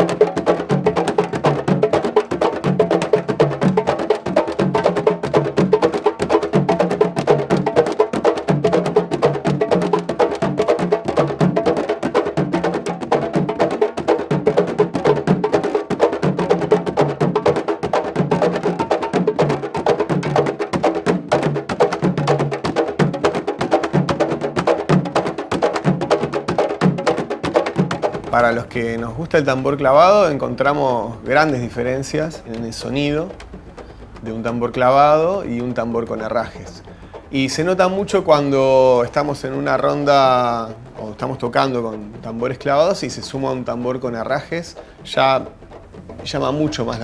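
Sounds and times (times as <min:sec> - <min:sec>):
deep drum tones: 0:00.0 - 0:47.0
rapid drum stick strikes: 0:00.0 - 0:47.0.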